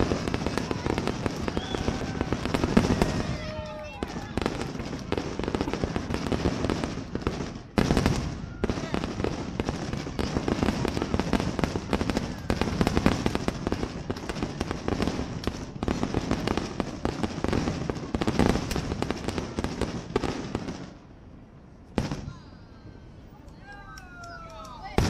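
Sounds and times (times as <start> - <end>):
fireworks bursting and crackling: 0.0 - 22.4, 23.5 - 25.0.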